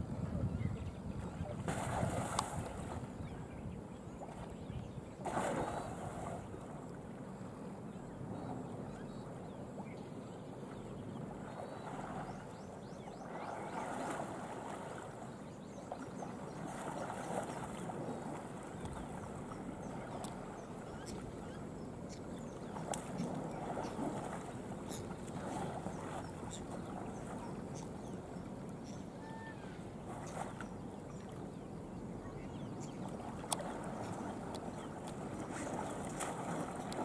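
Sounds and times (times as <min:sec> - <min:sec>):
water splashing and sloshing: 0:01.2 - 0:03.4, 0:04.0 - 0:07.6, 0:10.7 - 0:31.6, 0:32.5 - 0:37.0.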